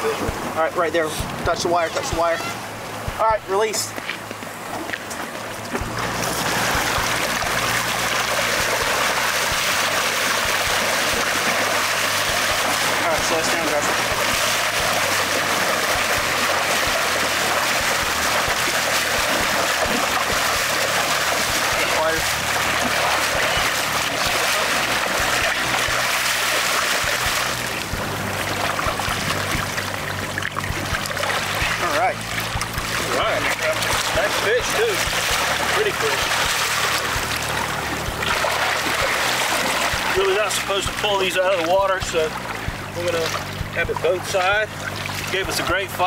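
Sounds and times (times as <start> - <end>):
low hum of boat engines: 0.0 - 46.0
water rushing and splashing: 0.0 - 46.0.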